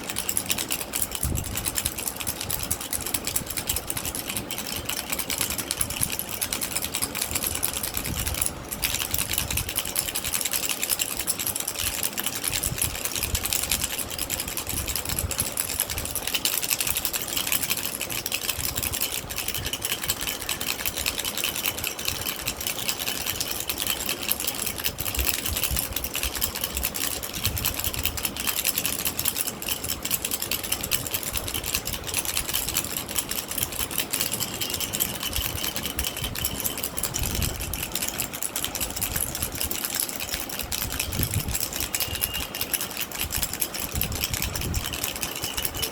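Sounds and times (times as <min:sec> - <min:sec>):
baby rattle shaken: 0:00.0 - 0:45.9.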